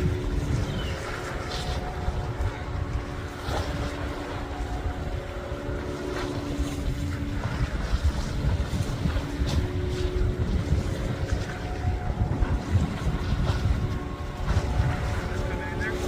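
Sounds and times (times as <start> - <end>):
boat engine droning: 0.0 - 16.0
wind rumbling on microphone: 0.0 - 16.0.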